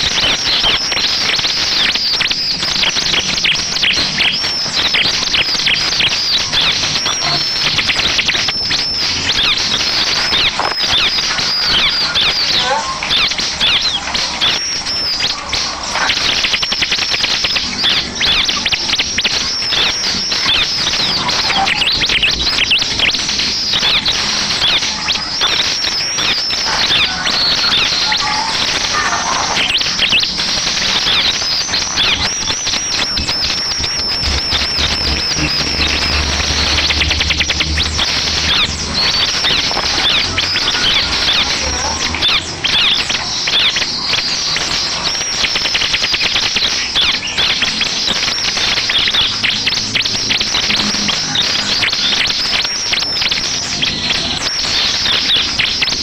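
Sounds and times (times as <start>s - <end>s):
bird rapid chattering song: 0.0s - 56.0s.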